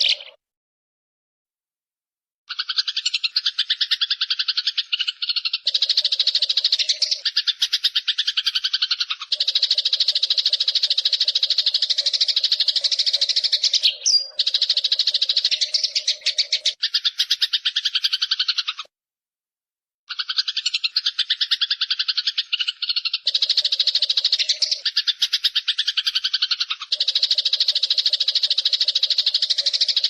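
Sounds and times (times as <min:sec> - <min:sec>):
rapid rattling animal call: 0:02.5 - 0:18.9, 0:20.1 - 0:30.0.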